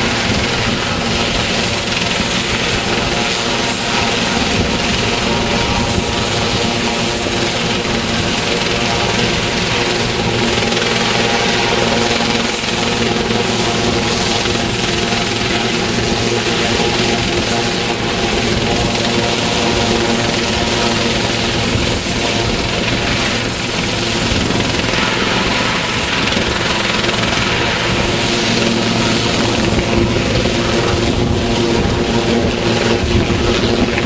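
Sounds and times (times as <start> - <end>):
helicopter engine whine: 0.0 - 34.0
helicopter rotors rushing: 0.0 - 34.0.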